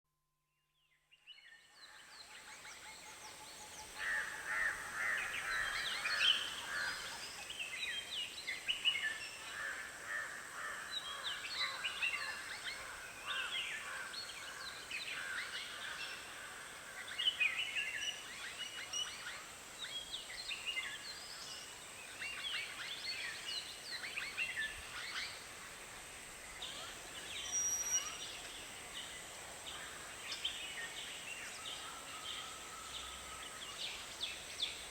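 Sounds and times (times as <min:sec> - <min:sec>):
faint steady hiss: 0:00.8 - 0:34.9.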